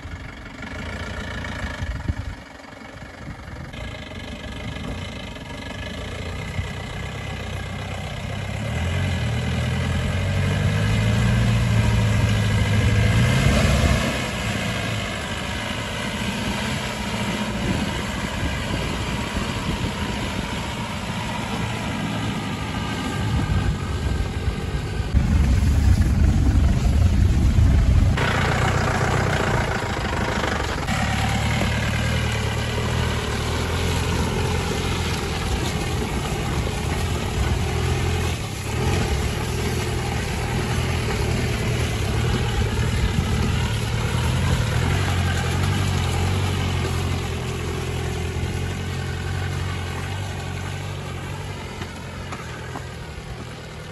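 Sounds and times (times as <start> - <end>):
engine labouring in mud: 0.0 - 53.9
tyres churning mud: 4.3 - 53.9.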